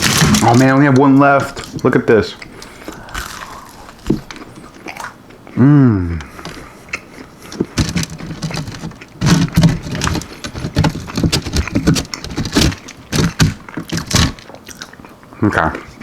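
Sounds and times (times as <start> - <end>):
crunchy chewing: 1.4 - 5.6, 6.2 - 16.0.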